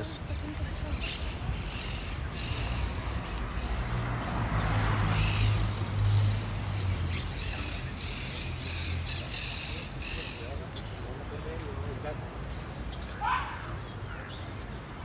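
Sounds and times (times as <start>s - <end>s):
birds calling harshly: 0.0s - 15.0s.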